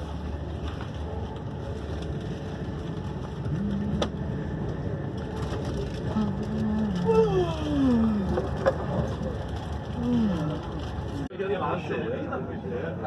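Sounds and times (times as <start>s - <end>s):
train coach rumbling on track: 0.0s - 11.3s.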